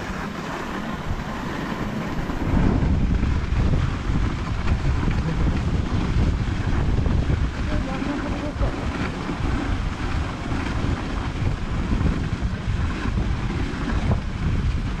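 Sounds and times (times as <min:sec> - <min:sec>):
sled gliding on snow: 0:00.0 - 0:15.0
wind buffeting microphone: 0:00.0 - 0:15.0.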